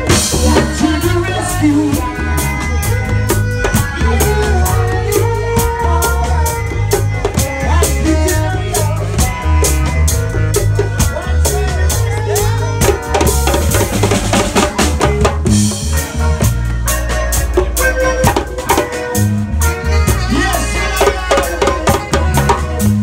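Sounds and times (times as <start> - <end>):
bass guitar line: 0.0 - 23.0
drum kit beat: 0.0 - 23.0
reggae band playing: 0.0 - 23.0.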